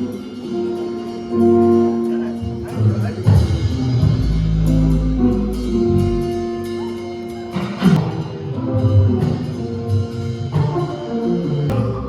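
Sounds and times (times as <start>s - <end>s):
background music with drums: 0.0s - 12.0s.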